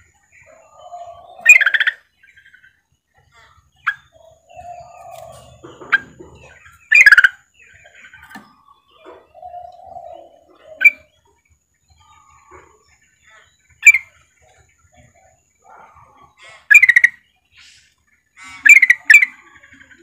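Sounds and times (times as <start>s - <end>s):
bird chattering calls: 0.0s - 11.2s, 12.0s - 14.3s, 15.0s - 20.0s.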